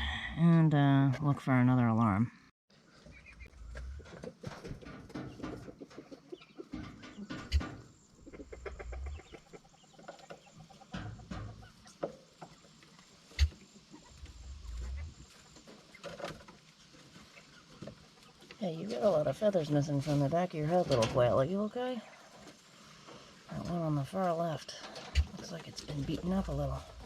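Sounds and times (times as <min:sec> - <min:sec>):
rustling: 0:02.8 - 0:27.0
quail clucking and chirping: 0:02.9 - 0:27.0.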